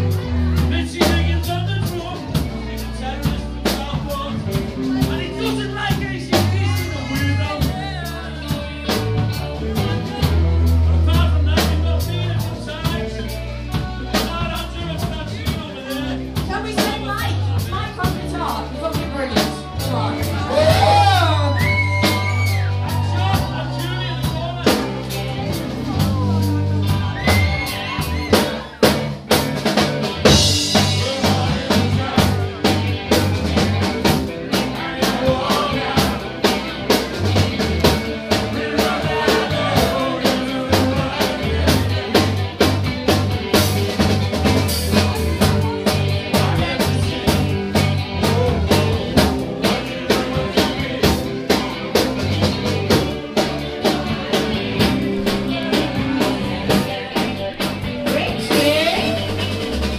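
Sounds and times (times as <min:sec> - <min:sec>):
drum kit beat: 0:00.0 - 0:59.9
electric guitar: 0:00.0 - 0:59.9
live band playing: 0:00.0 - 0:59.9.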